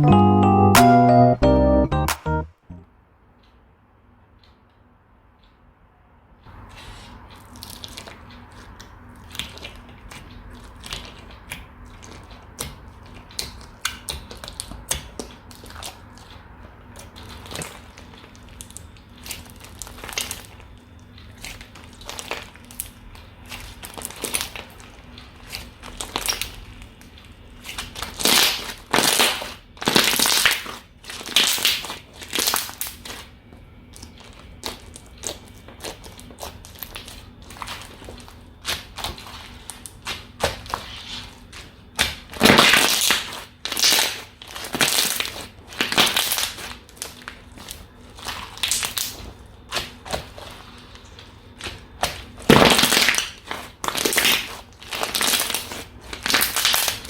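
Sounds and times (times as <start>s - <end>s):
slime squishes: 6.7s - 20.6s, 21.2s - 57.0s.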